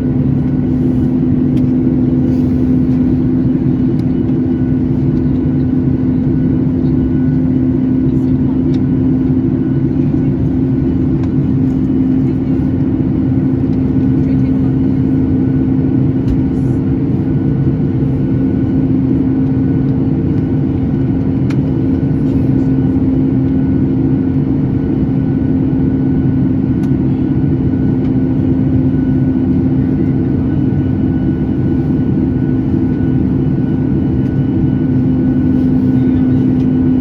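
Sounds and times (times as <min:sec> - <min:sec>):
jet engines humming: 0:00.0 - 0:37.0.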